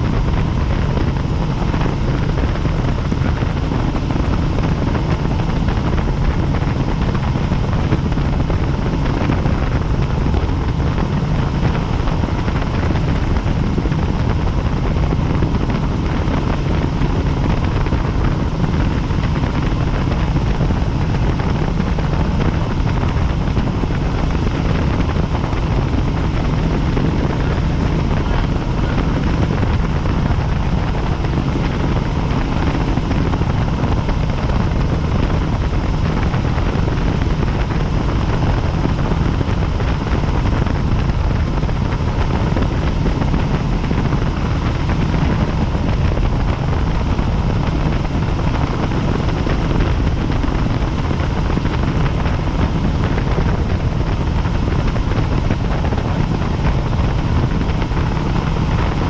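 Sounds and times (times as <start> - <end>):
helicopter rotor and engine rumble: 0.0 - 59.0.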